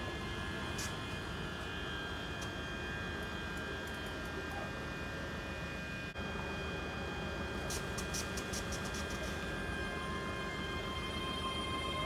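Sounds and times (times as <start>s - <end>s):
electric train whine: 0.0s - 12.0s.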